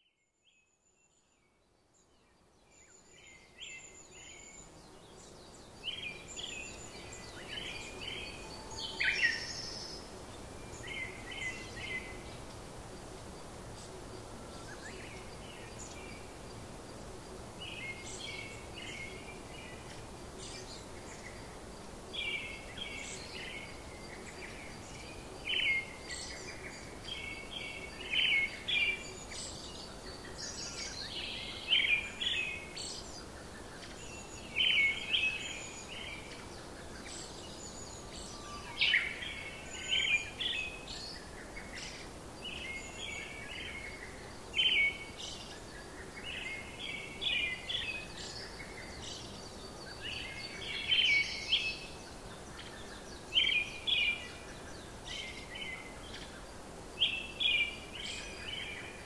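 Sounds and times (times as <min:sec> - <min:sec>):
steady low hiss: 0:00.4 - 0:59.0.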